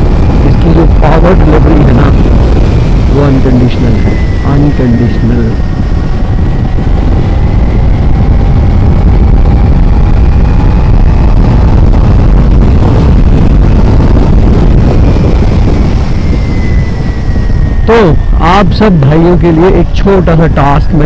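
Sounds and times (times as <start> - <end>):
motorcycle engine whine: 0.0 - 21.0
wind buffeting microphone: 0.0 - 21.0.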